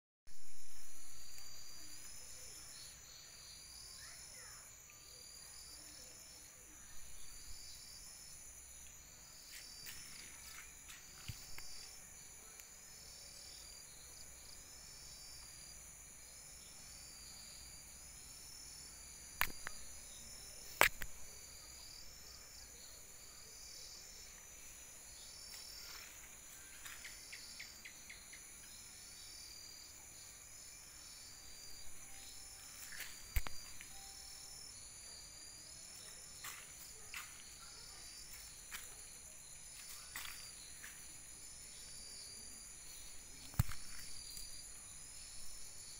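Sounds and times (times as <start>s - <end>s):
cricket chirps: 0.3s - 45.9s
insects droning: 0.3s - 45.9s.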